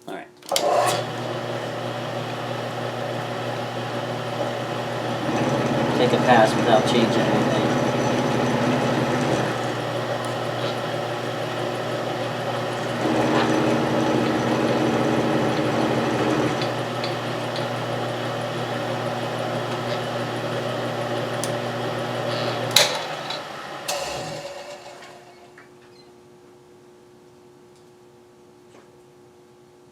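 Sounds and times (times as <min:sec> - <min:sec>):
end mill cutting metal: 0:00.5 - 0:25.6
milling machine motor hum: 0:00.5 - 0:25.6.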